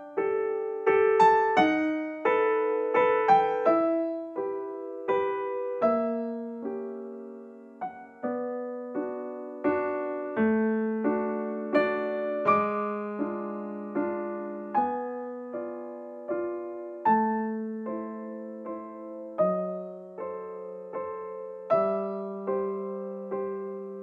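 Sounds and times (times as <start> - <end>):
solo piano chords: 0.0 - 24.0.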